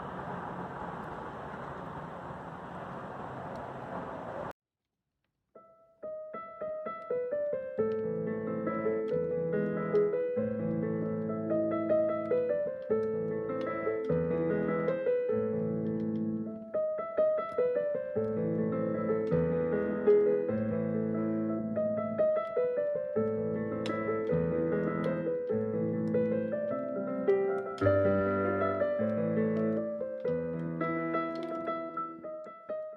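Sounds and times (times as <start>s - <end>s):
piano music: 5.6s - 32.9s.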